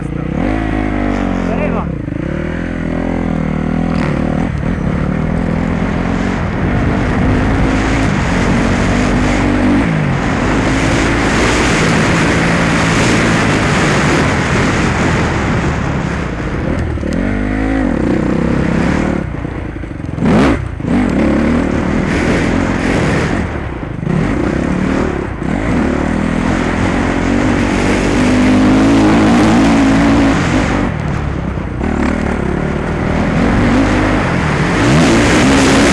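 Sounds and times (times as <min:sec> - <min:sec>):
motocross bike engine revving: 0:00.0 - 0:35.9
wind and track rushing noise: 0:00.0 - 0:35.9.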